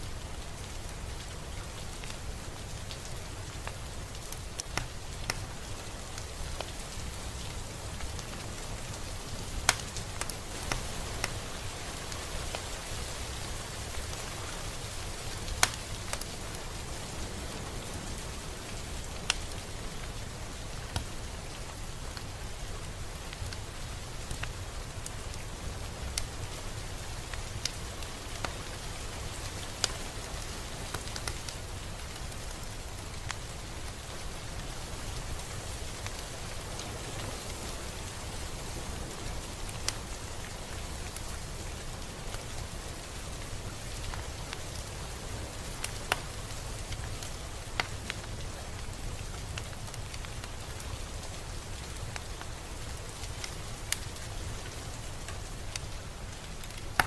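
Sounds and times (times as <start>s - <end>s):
steady rain hiss: 0.0s - 57.0s
raindrops ticking: 0.1s - 57.0s.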